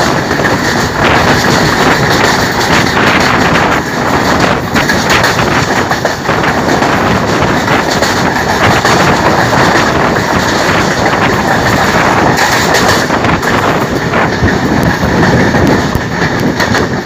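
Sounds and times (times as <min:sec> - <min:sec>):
train wheels rolling on track: 0:00.0 - 0:17.0
wheels clacking over rail joints: 0:00.0 - 0:17.0.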